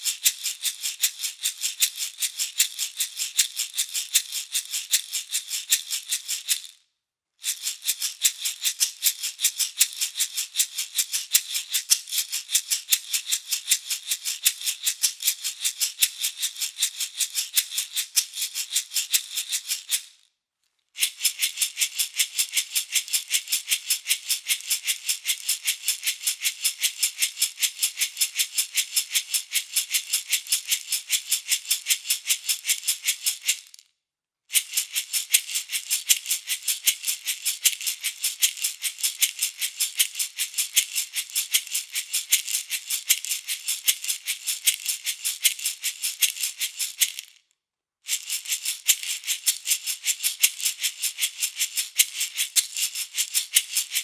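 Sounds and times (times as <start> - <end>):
wooden shaker rattling: 0.0 - 33.9, 34.5 - 47.5, 48.1 - 54.0.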